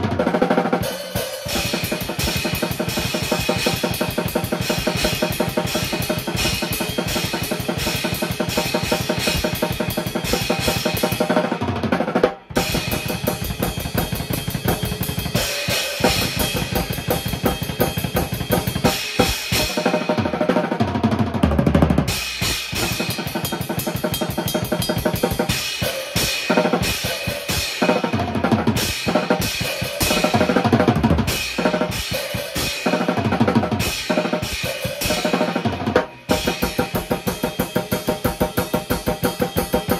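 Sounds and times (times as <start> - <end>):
drum kit played fast: 0.0 - 39.9.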